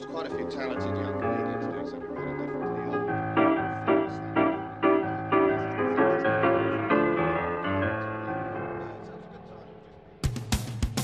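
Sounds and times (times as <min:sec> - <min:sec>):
piano music: 0:00.0 - 0:10.3.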